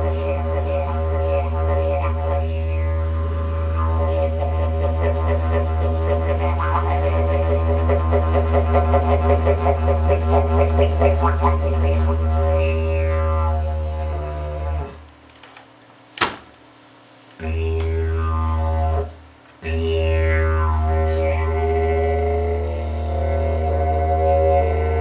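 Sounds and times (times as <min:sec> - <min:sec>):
didgeridoo drone: 0:00.0 - 0:15.1, 0:17.4 - 0:25.0.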